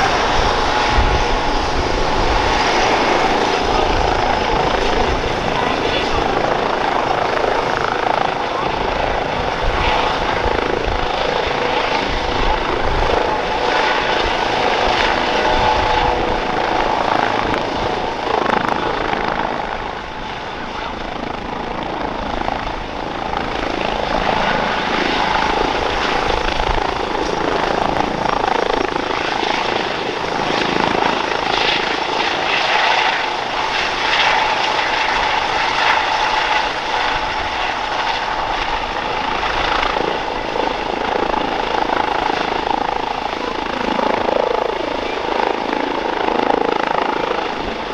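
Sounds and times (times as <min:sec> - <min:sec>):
helicopter hovering: 0:00.0 - 0:47.9.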